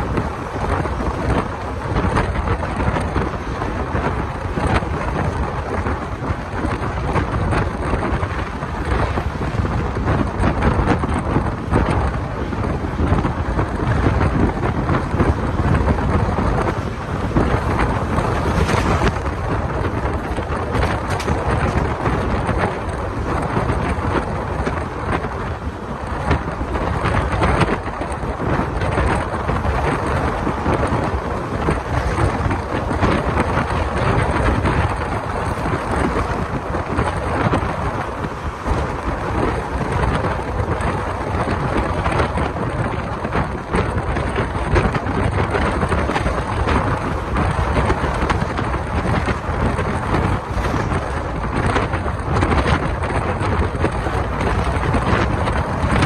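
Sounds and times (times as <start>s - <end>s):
train wheels rumbling on rails: 0.0s - 56.0s
wind buffeting microphone: 0.0s - 56.0s.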